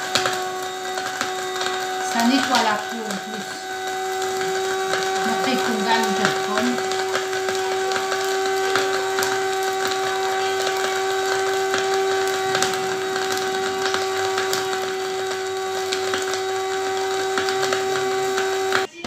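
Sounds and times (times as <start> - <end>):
electric grinder running: 0.0 - 19.0.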